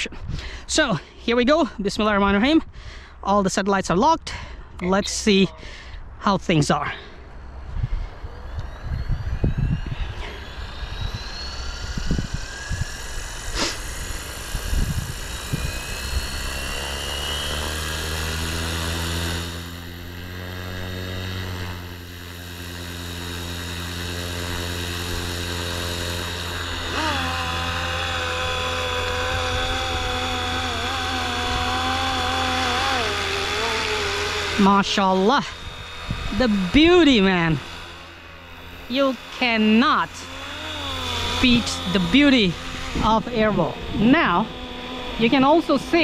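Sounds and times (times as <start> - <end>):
rc helicopter rotor whine: 0.0 - 46.0
higher wavering whine: 4.8 - 46.0.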